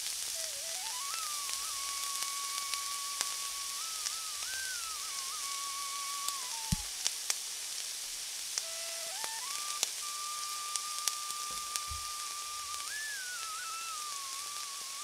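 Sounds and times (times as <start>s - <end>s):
background music melody: 0.4s - 7.1s, 8.6s - 15.0s.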